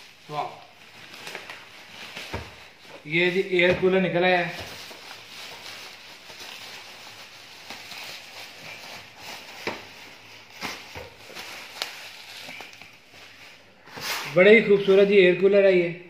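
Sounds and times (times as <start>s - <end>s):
plastic wrap rustling: 0.0s - 15.2s.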